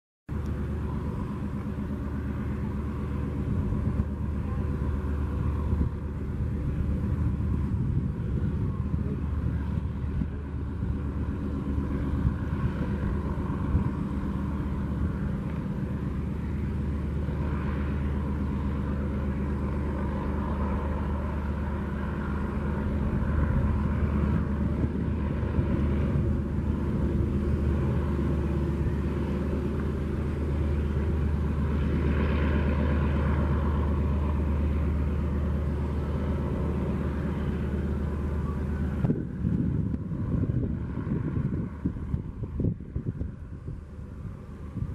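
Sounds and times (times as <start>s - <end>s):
seaplane piston engine droning: 0.3s - 44.9s.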